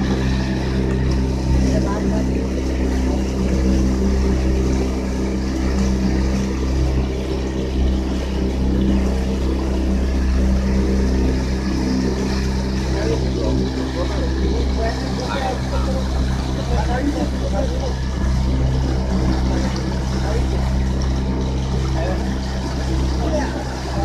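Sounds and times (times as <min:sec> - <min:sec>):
speedboat engine running: 0:00.0 - 0:24.0
water rushing along hull: 0:00.0 - 0:24.0.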